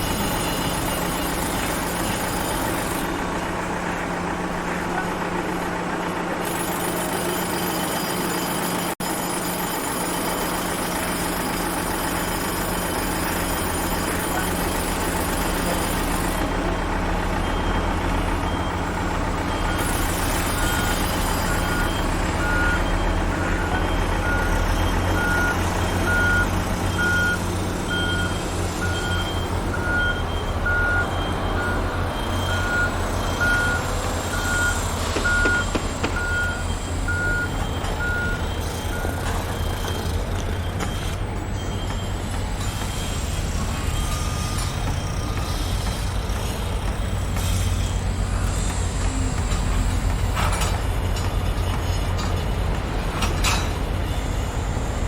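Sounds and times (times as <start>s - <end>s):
truck engine rumble: 0.0s - 55.0s
reversing alarms beeping: 6.4s - 55.0s.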